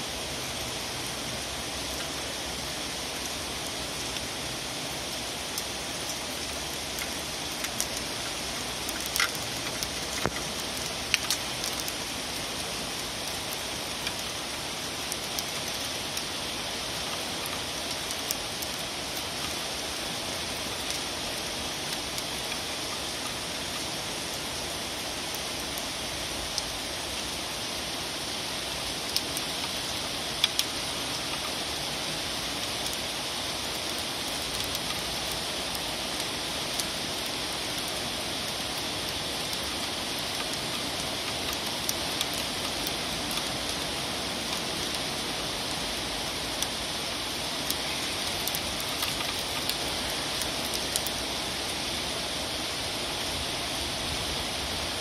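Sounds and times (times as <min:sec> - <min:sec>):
raindrops ticking on surfaces: 0:00.0 - 0:55.0
steady rain hiss: 0:00.0 - 0:55.0.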